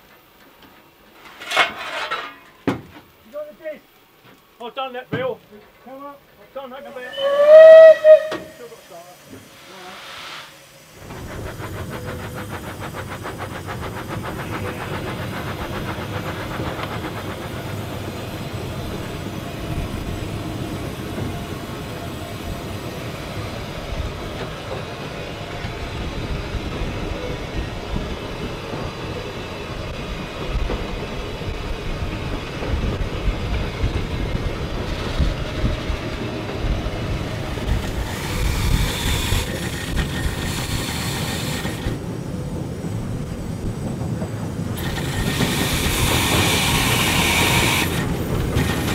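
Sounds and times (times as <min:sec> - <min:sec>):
steam locomotive running: 0:05.6 - 0:48.9.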